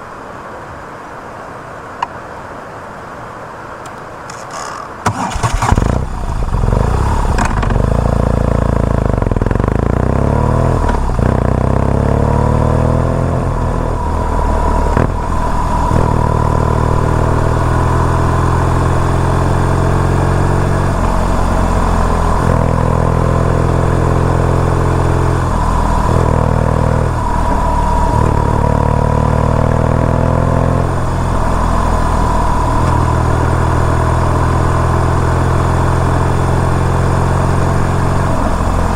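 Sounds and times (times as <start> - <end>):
motorcycle engine revving: 4.3 - 38.9.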